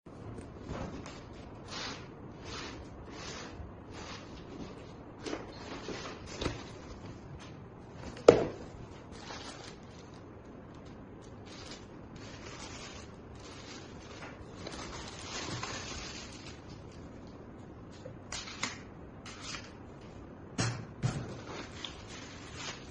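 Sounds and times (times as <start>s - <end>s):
rustling and handling noises: 0.1s - 20.4s, 21.2s - 22.9s.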